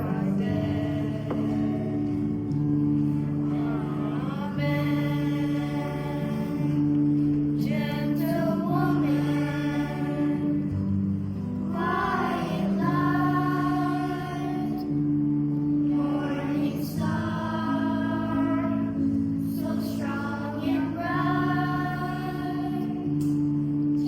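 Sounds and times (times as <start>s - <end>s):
children's choir singing a hymn: 0.0s - 24.0s
held low notes: 0.0s - 24.0s.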